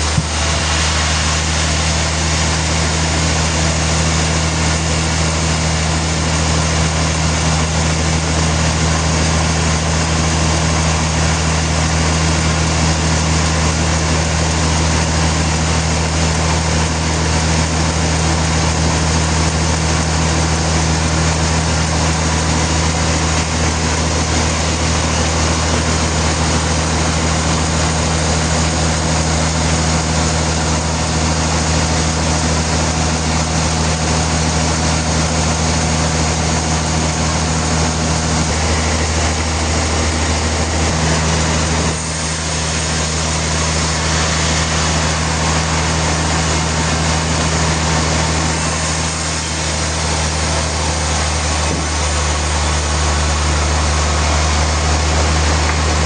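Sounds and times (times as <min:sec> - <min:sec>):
constant machinery hiss: 0:00.0 - 0:56.0
sawmill machinery hum: 0:00.0 - 0:56.0.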